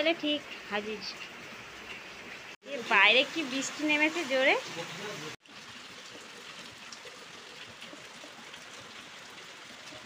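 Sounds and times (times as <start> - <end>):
heavy rain on concrete: 0.0 - 10.0.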